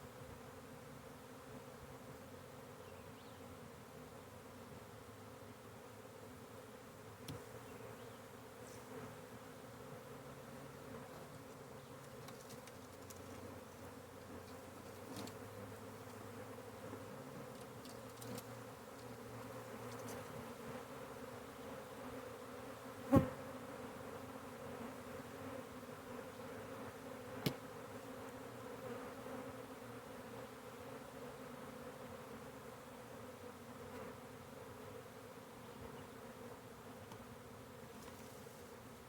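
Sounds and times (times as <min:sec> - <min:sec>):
bee swarm buzzing: 0:03.9 - 0:39.0.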